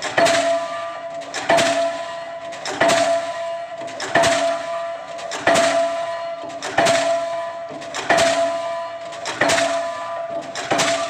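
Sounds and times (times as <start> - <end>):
pile hammer blows ringing: 0.0 - 11.0.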